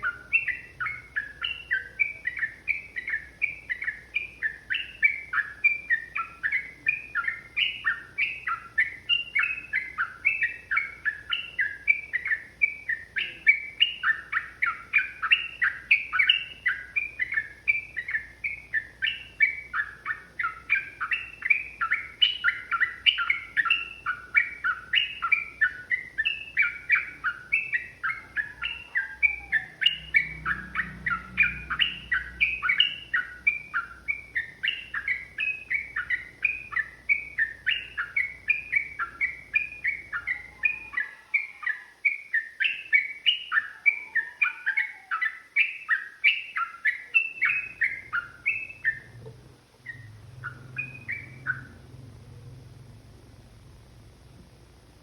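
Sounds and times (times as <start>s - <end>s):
bulbul chattering song: 0.0s - 55.0s.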